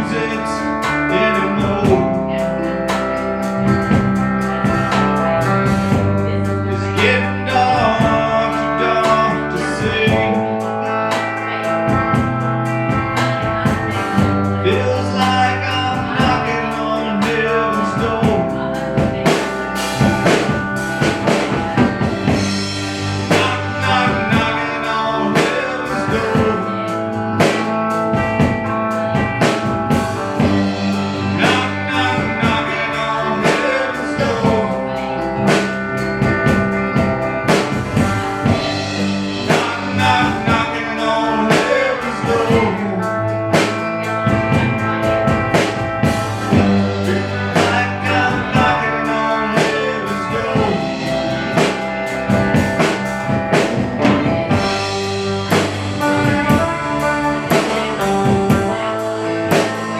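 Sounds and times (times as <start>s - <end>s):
bending electric guitar lead: 0.0s - 59.9s
country-rock band playing: 0.0s - 59.9s
drum kit beat: 0.0s - 59.9s.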